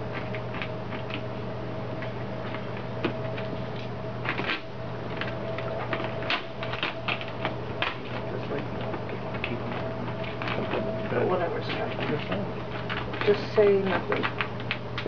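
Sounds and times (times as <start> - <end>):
steady low hum: 0.0 - 15.0
tint film clicks and crackles: 0.0 - 15.0.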